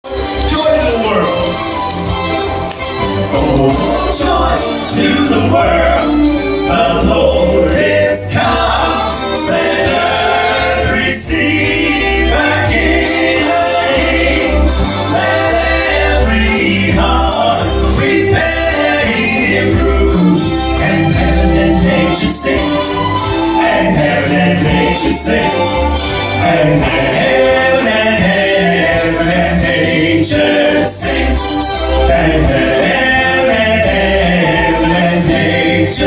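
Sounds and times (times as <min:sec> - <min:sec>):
instrumental backing with bass: 0:00.0 - 0:36.0
vocal group singing gospel: 0:02.8 - 0:36.0.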